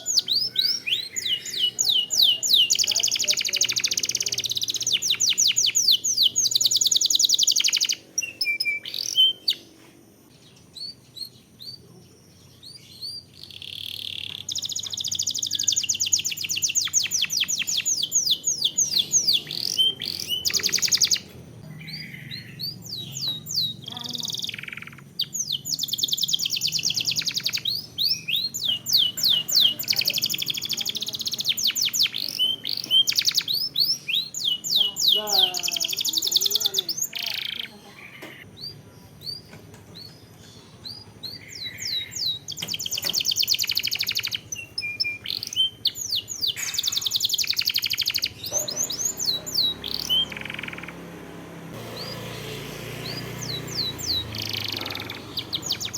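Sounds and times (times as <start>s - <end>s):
canary singing rolling trills: 0.0s - 55.9s.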